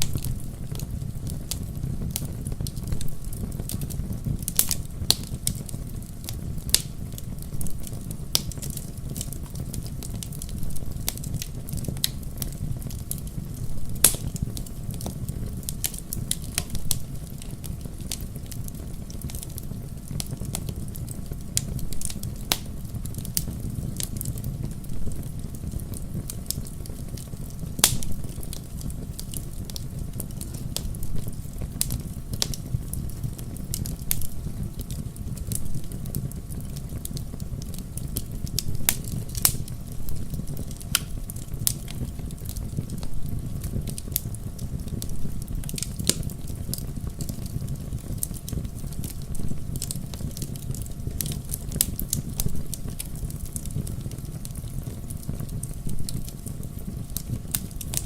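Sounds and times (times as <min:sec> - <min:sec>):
fire crackles and pops: 0:00.0 - 0:58.0
fire rumbling in fireplace: 0:00.0 - 0:58.0.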